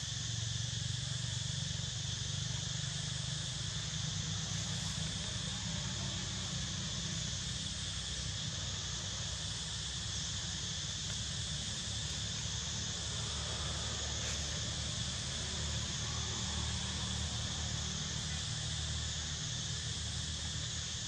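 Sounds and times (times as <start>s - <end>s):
low steady rumble: 0.0s - 21.0s
insects shrilling: 3.6s - 21.0s.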